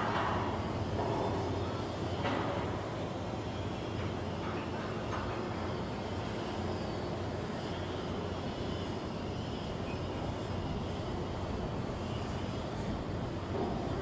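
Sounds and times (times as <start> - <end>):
heavy machinery drone: 0.0 - 14.0.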